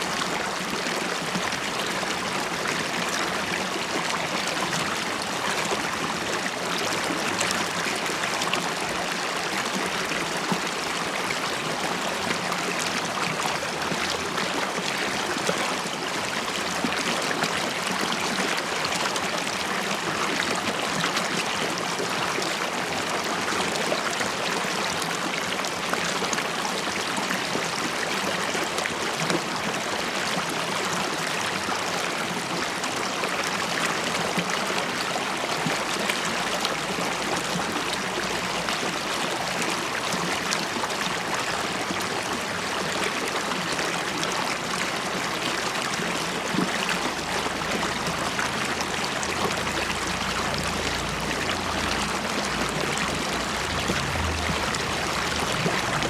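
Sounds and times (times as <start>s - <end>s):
river water over stones: 0.0s - 56.0s.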